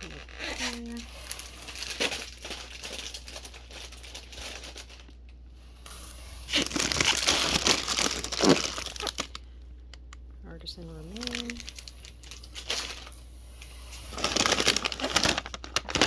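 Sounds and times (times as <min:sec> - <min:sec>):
packaging crinkling and rustling: 0:00.0 - 0:09.5, 0:11.1 - 0:16.0.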